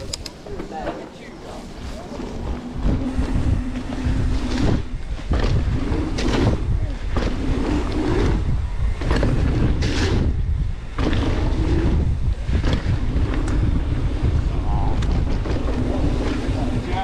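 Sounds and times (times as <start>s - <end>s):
bike rattles and clatters: 0.0s - 17.0s
wind on microphone: 0.0s - 17.0s
tyre rumble on dirt trail: 0.6s - 17.0s.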